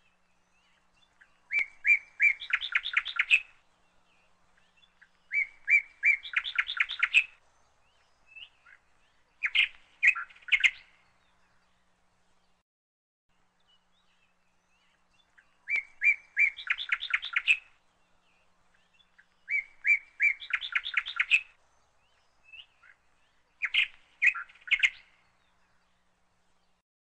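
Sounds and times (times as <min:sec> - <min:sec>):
bird singing: 0:00.0 - 0:12.6, 0:13.3 - 0:26.8.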